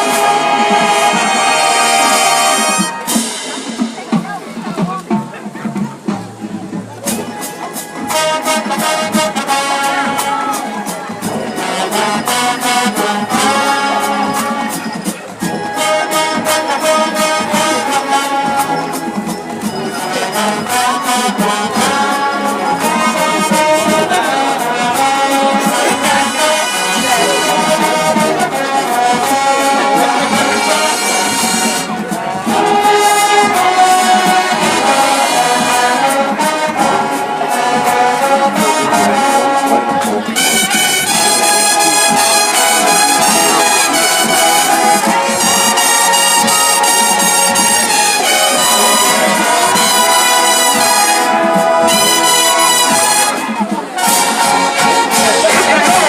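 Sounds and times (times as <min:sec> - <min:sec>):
drum-line beat: 0:00.0 - 0:56.0
trombones and trumpets: 0:00.0 - 0:56.0.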